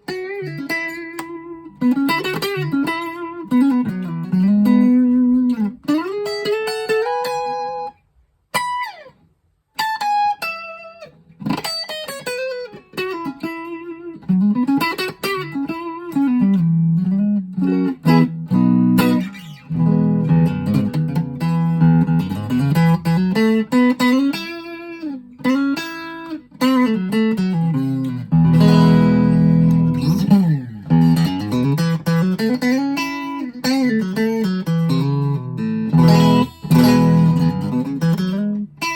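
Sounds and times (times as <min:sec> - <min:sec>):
electric guitar playing: 0:00.0 - 0:09.1, 0:09.8 - 0:38.9.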